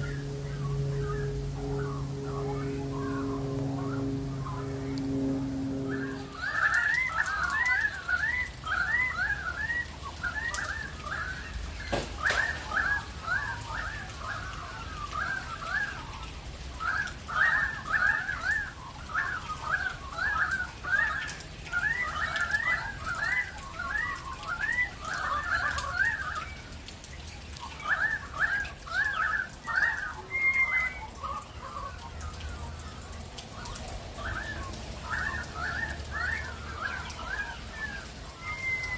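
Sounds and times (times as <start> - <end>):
light rain falling: 0.0 - 38.9
magpies warbling: 0.0 - 38.9.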